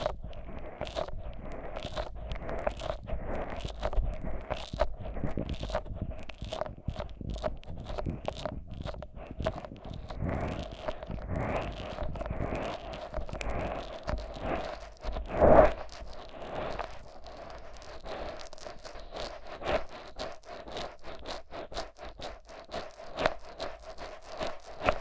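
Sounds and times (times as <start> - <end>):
fingers rubbing on microphone: 0.0 - 25.0.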